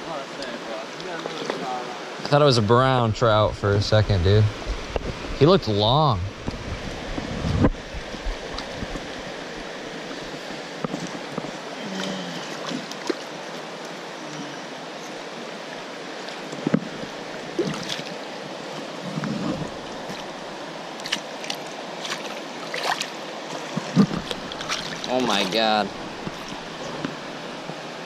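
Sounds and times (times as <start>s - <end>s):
river water gurgling: 0.0s - 28.0s.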